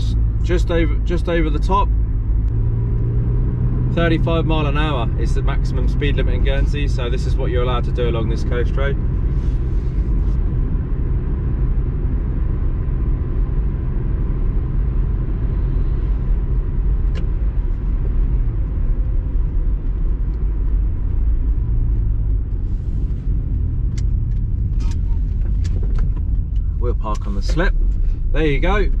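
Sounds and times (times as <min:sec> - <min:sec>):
engine and tyre rumble: 0:00.0 - 0:29.0.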